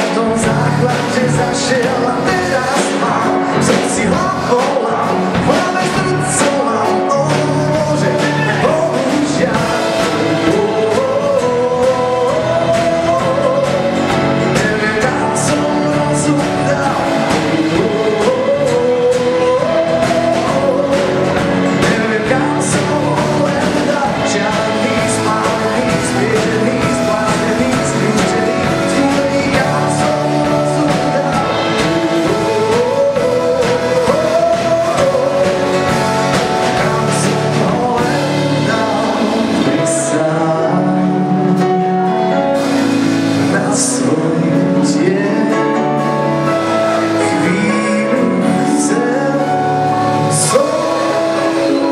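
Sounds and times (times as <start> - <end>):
acoustic guitar: 0.0 - 51.9
drum kit: 0.0 - 51.9
man singing: 0.0 - 51.9.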